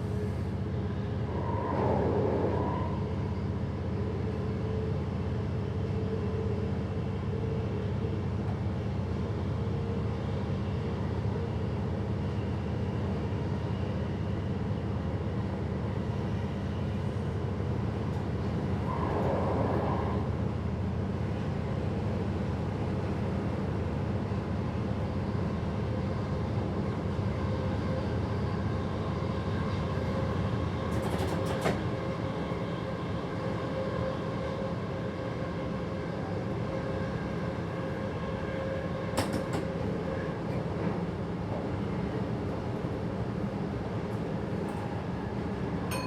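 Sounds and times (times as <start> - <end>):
train rumble and hum: 0.0 - 46.0.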